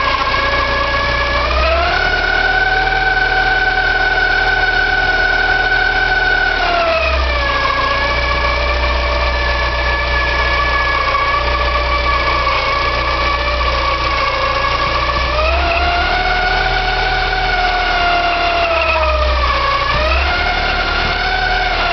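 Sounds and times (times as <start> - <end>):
car engine hum: 0.0 - 21.9
high-pitched engine whine: 0.0 - 21.9.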